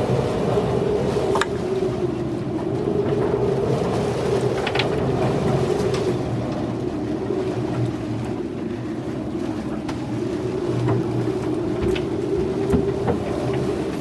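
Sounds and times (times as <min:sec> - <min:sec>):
rumble and wind noise: 0:00.0 - 0:14.0.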